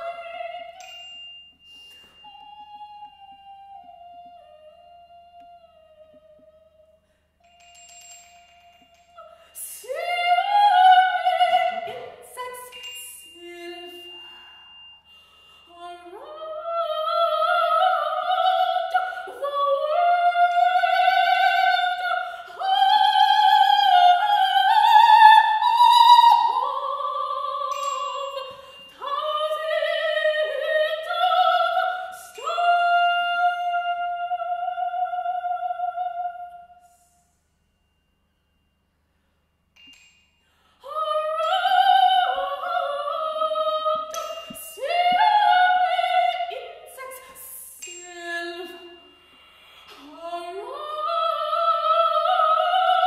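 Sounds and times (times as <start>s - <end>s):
soprano voice singing: 0.0s - 1.0s, 2.3s - 6.6s, 8.9s - 14.4s, 15.7s - 37.1s, 40.8s - 49.0s, 49.9s - 53.0s.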